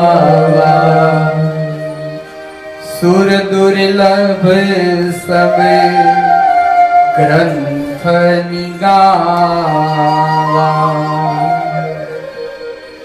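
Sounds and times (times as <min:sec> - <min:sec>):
man singing: 0:00.0 - 0:02.2, 0:02.8 - 0:12.6.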